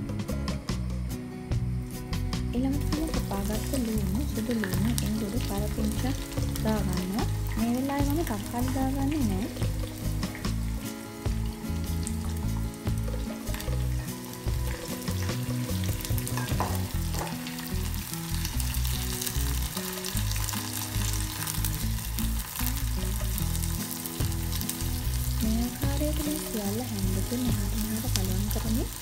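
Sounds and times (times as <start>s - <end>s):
vegetables sizzling in hot oil: 1.6s - 29.0s.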